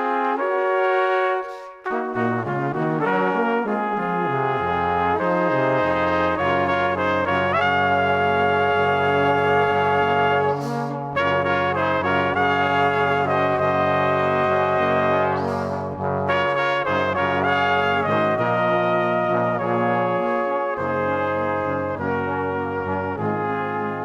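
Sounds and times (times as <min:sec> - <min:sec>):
brass-like held chords: 0:00.0 - 0:24.0.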